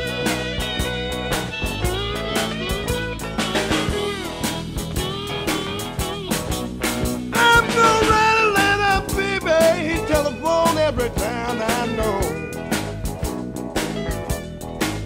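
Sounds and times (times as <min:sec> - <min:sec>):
electric blues band playing: 0:00.0 - 0:15.0
lead guitar bending line: 0:00.0 - 0:15.0.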